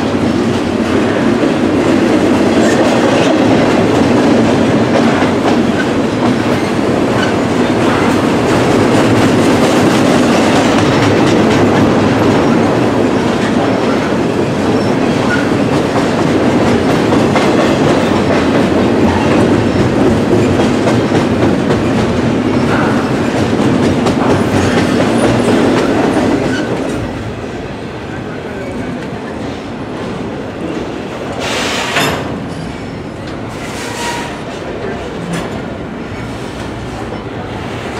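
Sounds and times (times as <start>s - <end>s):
train wheels clattering over rails: 0.0s - 37.9s.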